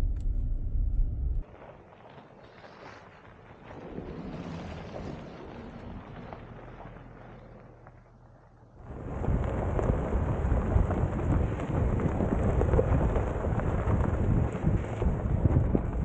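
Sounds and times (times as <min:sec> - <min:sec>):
tyres rolling over gravel: 0:01.4 - 0:16.0.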